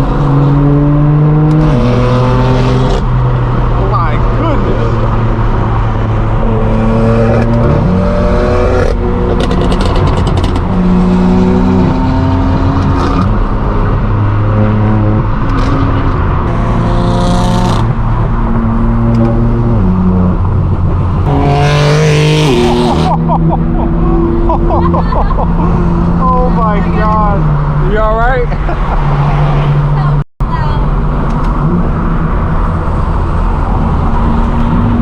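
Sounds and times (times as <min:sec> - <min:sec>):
car engine running with gear changes: 0:00.0 - 0:35.0.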